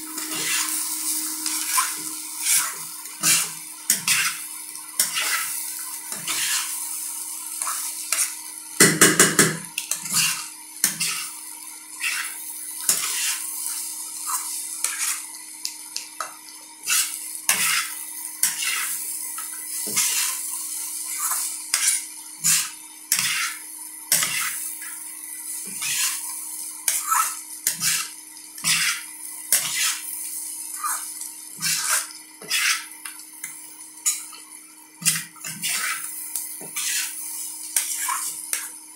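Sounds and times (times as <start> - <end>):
potatoes sizzling: 0.0 - 38.9
spatula scraping frying pan: 0.2 - 8.4, 9.8 - 15.4, 16.8 - 34.4, 35.0 - 38.7.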